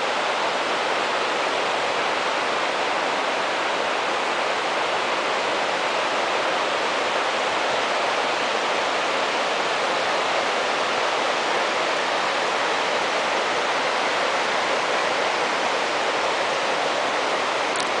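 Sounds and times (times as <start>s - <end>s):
stream running: 0.0s - 18.0s
waterfall rushing: 0.0s - 18.0s.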